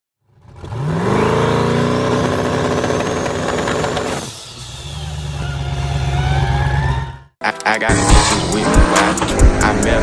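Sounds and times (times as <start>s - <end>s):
car engine revving: 0.3s - 6.8s, 7.9s - 10.0s.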